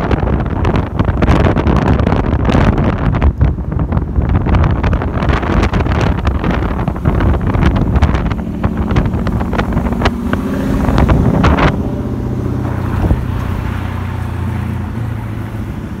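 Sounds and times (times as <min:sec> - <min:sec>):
car exhaust rumbling driving off: 0:00.0 - 0:16.0.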